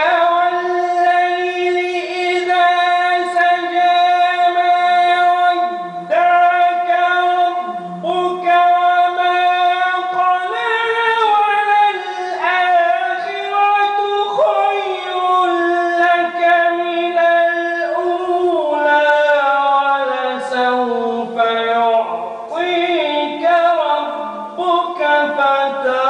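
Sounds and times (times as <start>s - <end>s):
man reciting melodically: 0.0s - 26.0s.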